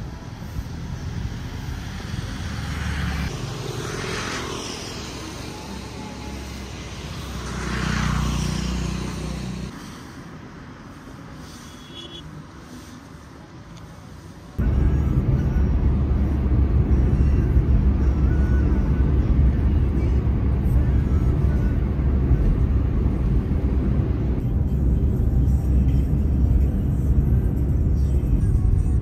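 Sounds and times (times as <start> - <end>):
road traffic rumbling: 0.0 - 29.0
vehicles passing by: 0.0 - 29.0.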